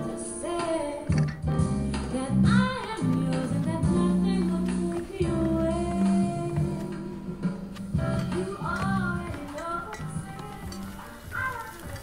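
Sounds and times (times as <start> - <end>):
guitar: 0.0 - 12.0
person singing: 2.0 - 12.0.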